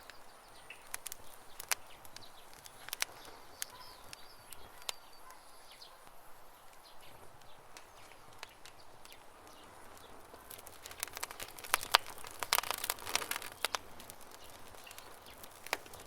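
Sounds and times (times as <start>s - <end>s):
birds chirping: 0.0s - 16.0s
campfire crackling: 0.0s - 16.0s.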